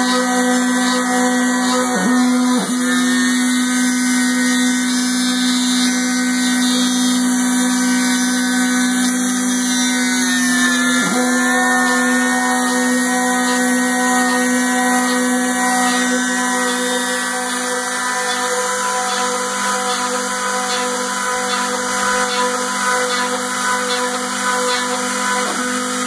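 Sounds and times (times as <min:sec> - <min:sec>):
milling machine motor whine: 0:00.0 - 0:26.0.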